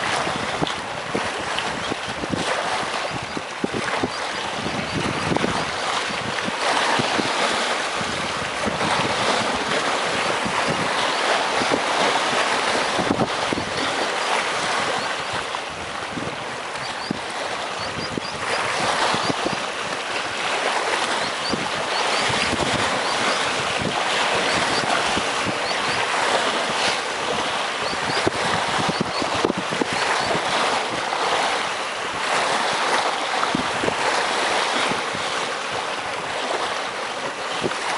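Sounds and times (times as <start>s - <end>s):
sea waves breaking against rocks: 0.0s - 37.9s.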